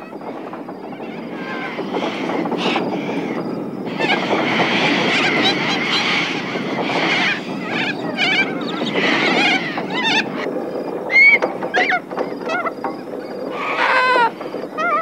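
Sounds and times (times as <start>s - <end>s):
metal windmill wheel turning: 0.0s - 15.0s
corellas screeching: 0.1s - 15.0s.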